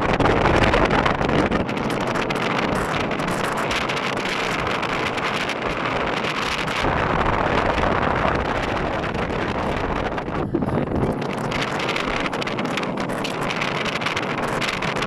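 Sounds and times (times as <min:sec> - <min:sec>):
car road noise: 0:00.0 - 0:15.0
wind rushing over microphone: 0:00.0 - 0:15.0.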